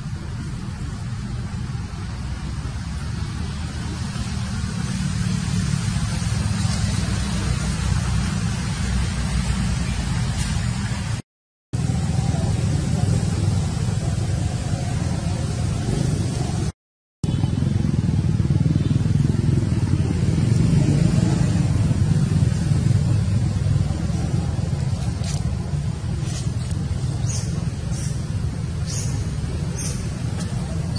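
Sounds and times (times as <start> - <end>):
low rumbling noise: 0.0 - 11.2, 11.8 - 30.9.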